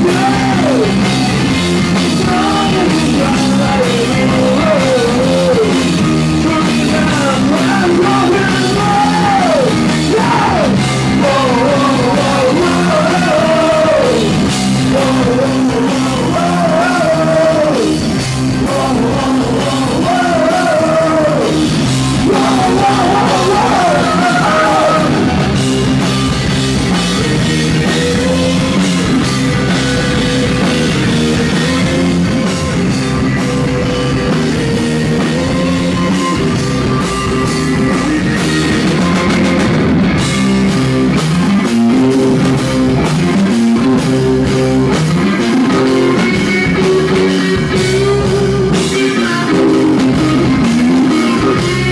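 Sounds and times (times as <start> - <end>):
bass guitar: 0.0 - 51.9
drum kit: 0.0 - 51.9
electric guitar: 0.0 - 51.9.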